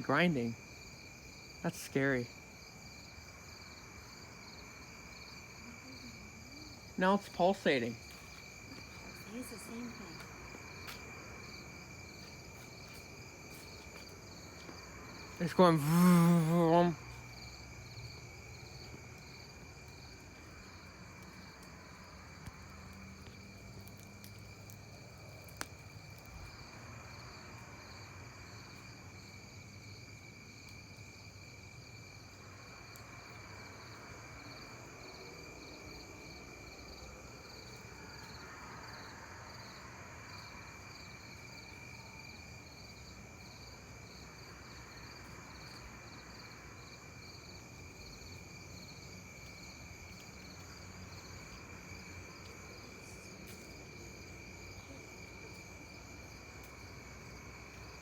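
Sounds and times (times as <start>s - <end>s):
night insects trilling: 0.0s - 58.0s.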